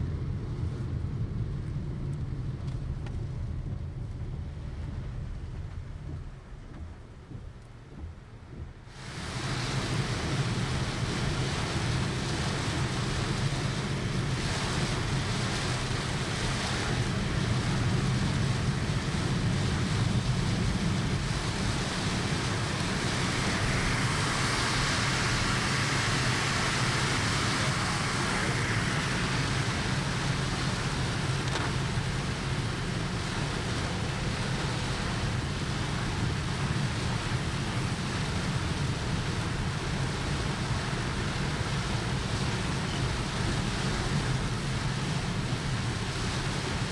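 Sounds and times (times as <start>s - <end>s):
heavy rain on a car: 0.0s - 46.9s
low road hum: 0.0s - 46.9s
wet road noise: 0.0s - 46.9s.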